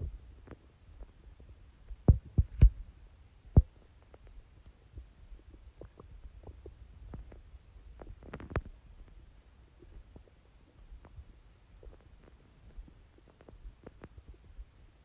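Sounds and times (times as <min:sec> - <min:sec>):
stomach gurgling and popping: 0:00.0 - 0:02.9, 0:03.5 - 0:15.0.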